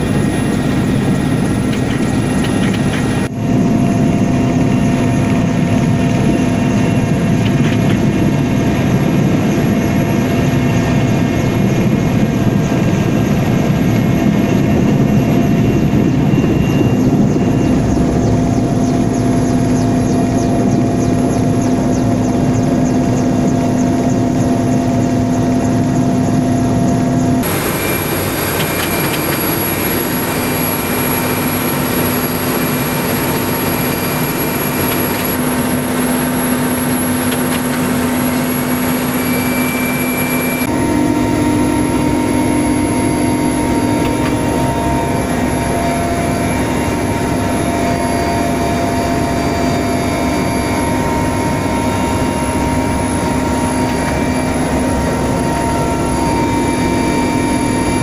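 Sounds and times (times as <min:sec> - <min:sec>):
helicopter engines and rotor drone: 0:00.0 - 0:58.0.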